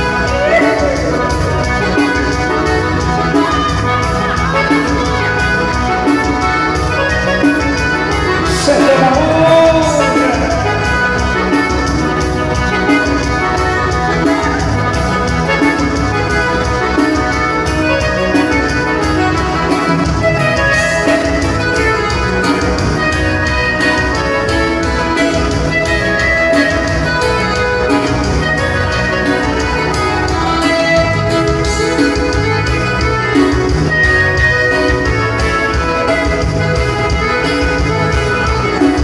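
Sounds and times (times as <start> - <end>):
loud dance music: 0.0 - 39.0.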